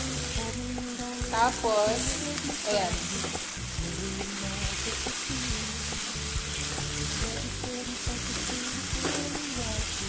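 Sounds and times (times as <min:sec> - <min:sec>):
background music: 0:00.0 - 0:10.0
food sizzling in a wok: 0:00.0 - 0:10.0.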